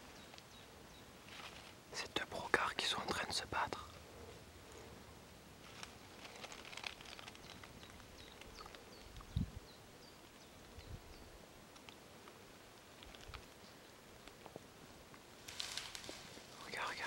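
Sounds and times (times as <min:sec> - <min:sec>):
rustling in undergrowth: 0:00.0 - 0:17.0.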